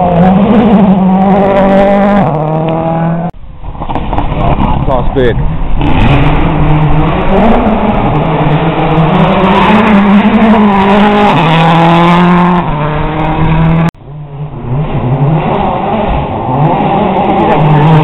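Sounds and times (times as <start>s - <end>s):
rally car engine at high revs: 0.0s - 3.3s, 5.7s - 18.0s.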